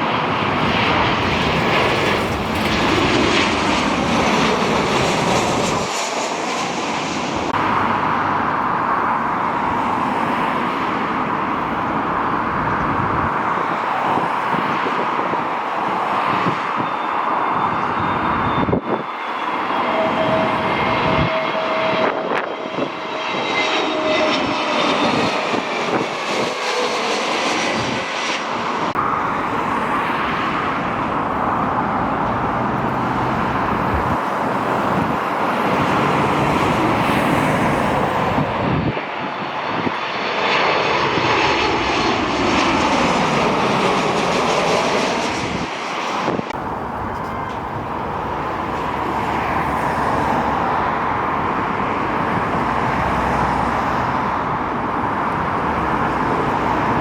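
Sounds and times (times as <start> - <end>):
jet engines roaring: 0.0 - 57.0
thin high engine whine: 0.1 - 57.0.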